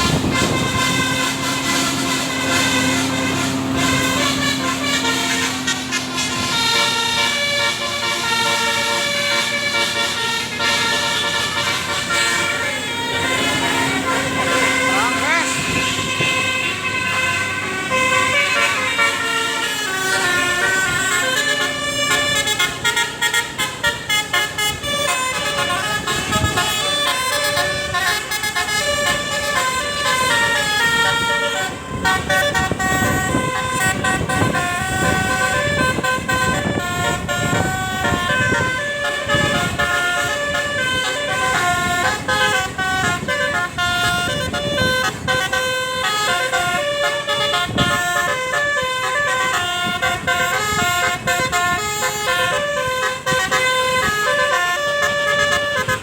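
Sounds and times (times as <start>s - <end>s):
multi-tone bus horns melody: 0.0s - 56.0s.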